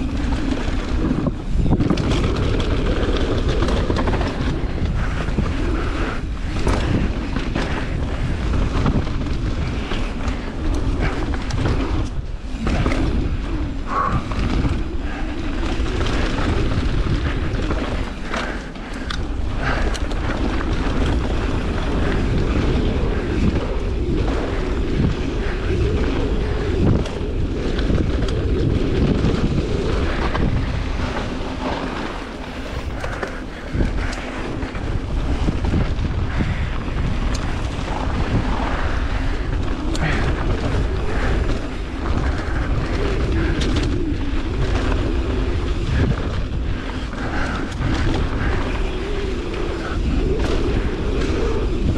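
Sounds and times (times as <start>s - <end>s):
bike knocks and rattles: 0.0s - 49.0s
tyres rumbling on trail: 0.0s - 51.9s
wind buffeting microphone: 0.0s - 51.9s.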